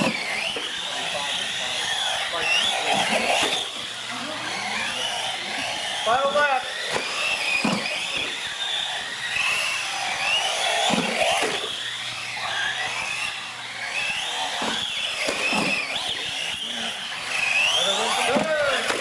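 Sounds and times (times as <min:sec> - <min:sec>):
toy car motor whining: 0:00.0 - 0:19.0.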